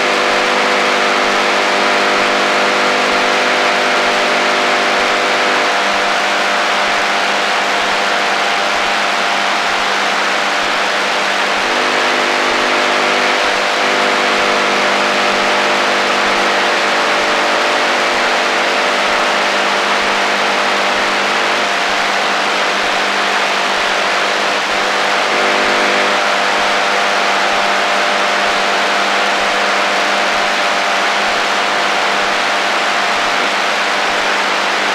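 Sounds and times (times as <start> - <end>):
buzzing drone of low tones: 0.0 - 34.9
radio static hiss: 0.0 - 34.9.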